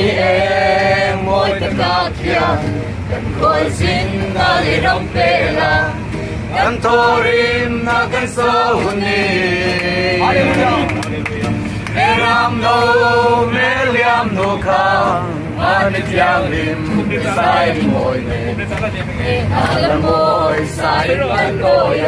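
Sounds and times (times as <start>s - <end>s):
men singing in chorus: 0.0s - 10.9s, 12.0s - 22.0s
acoustic guitar: 0.0s - 22.0s.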